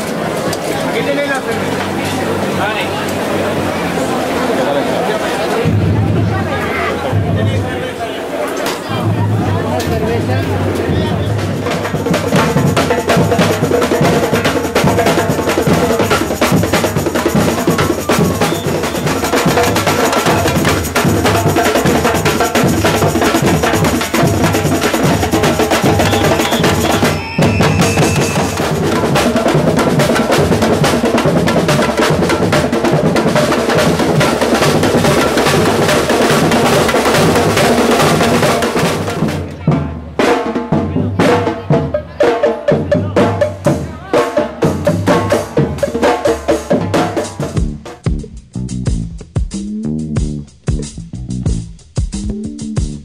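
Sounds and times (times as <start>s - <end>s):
drummers playing loud rhythm: 5.1s - 53.0s.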